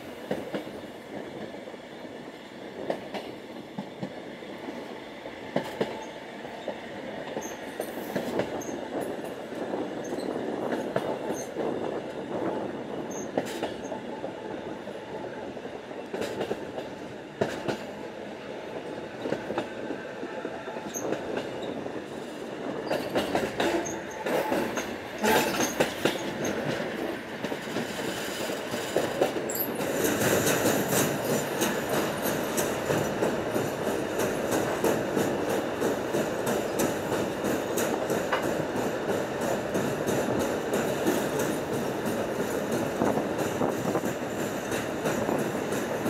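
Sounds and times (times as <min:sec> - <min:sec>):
train wheels rumbling on rails: 0:00.0 - 0:46.0
clacks over rail joints: 0:00.2 - 0:01.6, 0:02.8 - 0:04.8, 0:05.5 - 0:14.1, 0:16.0 - 0:18.1, 0:18.9 - 0:20.0, 0:20.8 - 0:46.0.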